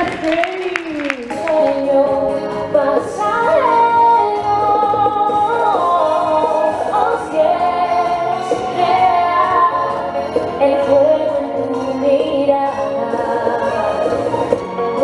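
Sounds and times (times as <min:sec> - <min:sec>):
woman singing: 0:00.0 - 0:14.5
dance music: 0:00.0 - 0:15.0.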